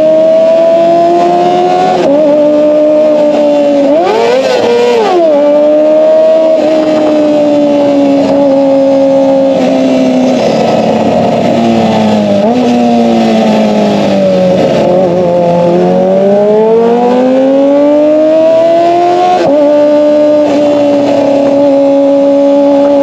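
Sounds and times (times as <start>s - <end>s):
motorcycle engine revving high: 0.0s - 23.0s.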